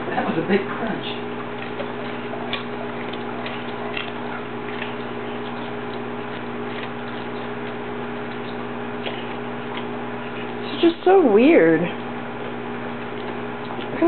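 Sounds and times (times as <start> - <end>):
low electrical hum: 0.0 - 14.0
dog crunching broccoli: 0.6 - 14.0.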